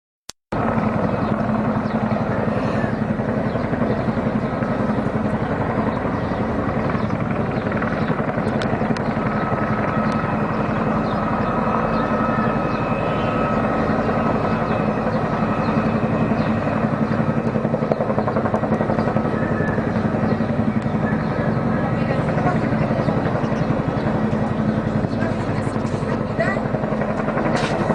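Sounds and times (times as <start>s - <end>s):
helicopter rotor chop: 0.5s - 27.9s.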